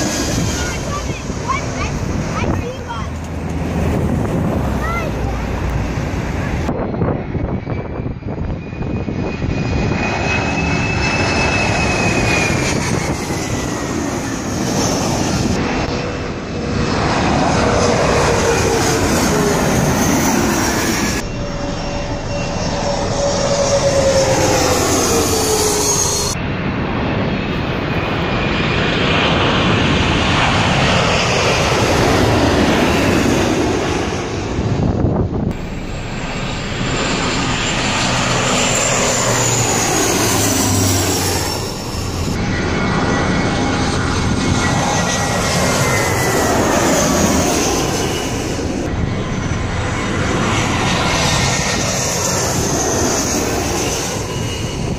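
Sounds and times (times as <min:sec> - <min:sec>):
jet airliner passing overhead: 0:00.0 - 0:54.9
turboprop plane passing: 0:00.0 - 0:54.9.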